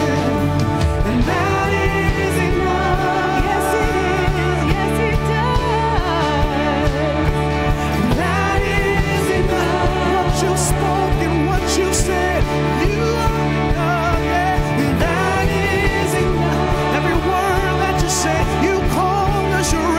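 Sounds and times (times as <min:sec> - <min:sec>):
drum and bass beat: 0:00.0 - 0:19.9
person singing with vibrato: 0:00.0 - 0:19.9
worship band playing: 0:00.0 - 0:19.9.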